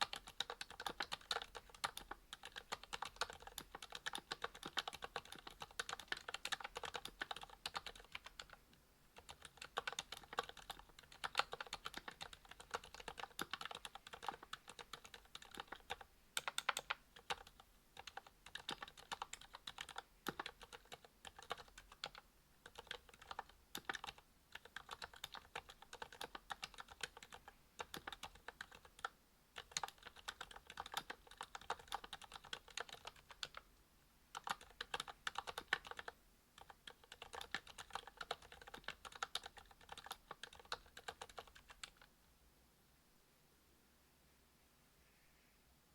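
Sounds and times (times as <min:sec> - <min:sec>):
quiet mechanical keyboard typing: 0:00.0 - 0:33.7, 0:34.3 - 0:42.1.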